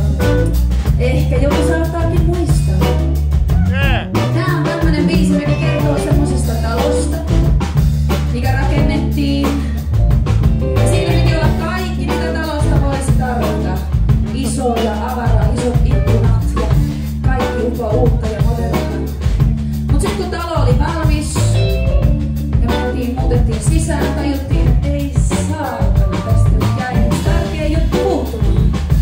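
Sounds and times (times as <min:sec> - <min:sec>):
woman singing: 0:00.0 - 0:03.2, 0:04.4 - 0:07.5, 0:08.3 - 0:09.8, 0:10.9 - 0:19.3, 0:19.9 - 0:21.8, 0:22.5 - 0:28.9
live band playing: 0:00.0 - 0:29.0
low bass line: 0:00.0 - 0:29.0.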